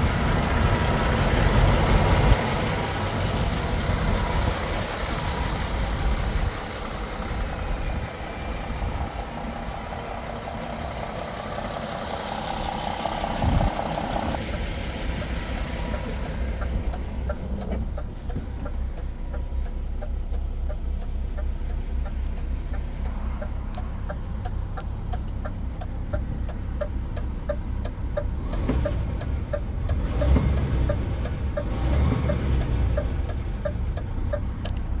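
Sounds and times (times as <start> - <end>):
diesel engine idling: 0.0 - 35.0
engine ticking: 0.0 - 35.0.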